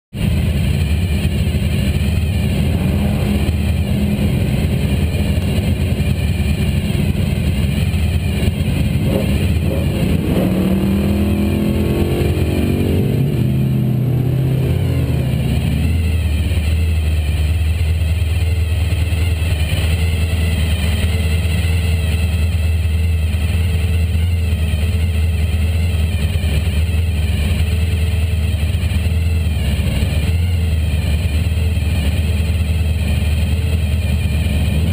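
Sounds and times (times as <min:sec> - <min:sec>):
drag car engine idling: 0:00.1 - 0:34.9
engine sweeping up and down in pitch: 0:00.2 - 0:18.0, 0:19.0 - 0:34.9.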